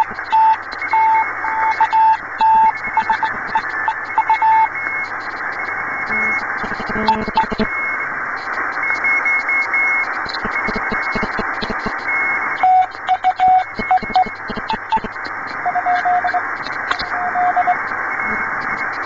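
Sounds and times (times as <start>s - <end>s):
morse code tone: 0.0s - 5.2s, 6.0s - 8.0s, 8.8s - 19.0s
crackling static: 0.0s - 19.0s
radio band hiss: 0.0s - 19.0s.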